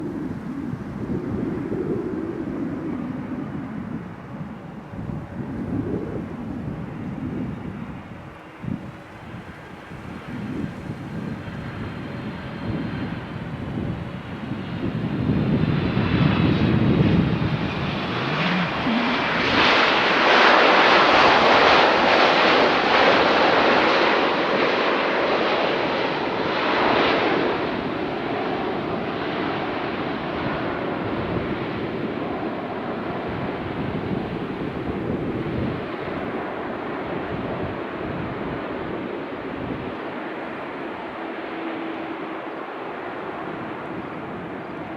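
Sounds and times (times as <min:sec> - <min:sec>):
jet engines whining and rumbling: 0:00.0 - 0:44.9.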